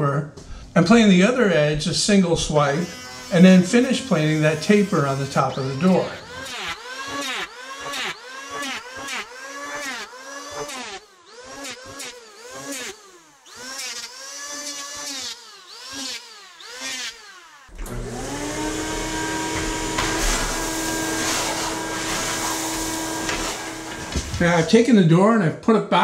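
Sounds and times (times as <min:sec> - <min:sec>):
vacuum cleaner running: 0:00.6 - 0:15.0, 0:17.7 - 0:24.8
electric planer whining: 0:02.4 - 0:24.8.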